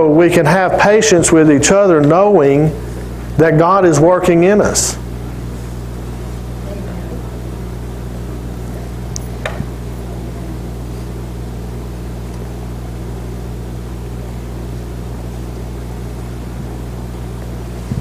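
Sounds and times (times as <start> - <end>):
low electrical hum with hiss: 0.0 - 18.0.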